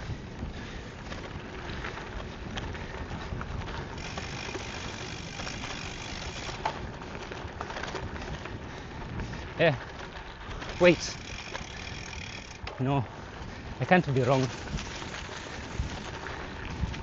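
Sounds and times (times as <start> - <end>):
bike rattling and clicking: 0.0 - 17.0
bike tyres rolling on gravel: 0.0 - 17.0.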